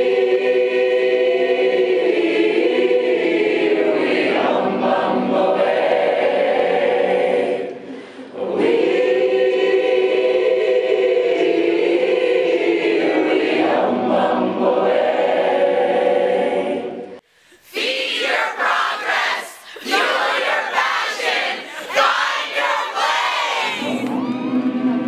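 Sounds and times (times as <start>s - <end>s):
group singing in harmony: 0.0s - 25.0s.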